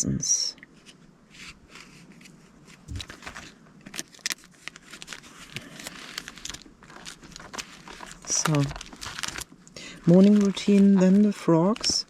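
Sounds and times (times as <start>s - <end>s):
paper rustling and crinkling: 1.4s - 12.0s.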